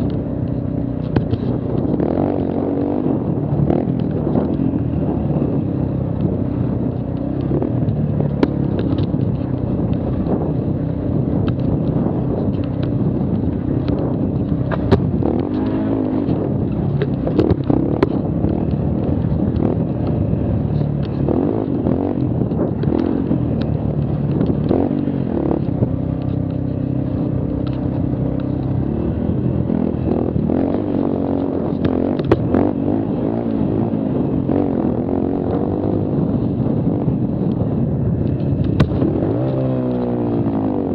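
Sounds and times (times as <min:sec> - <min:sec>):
quad engine revving: 0:00.0 - 0:37.2
knocks and rattles over trail: 0:00.0 - 0:40.9.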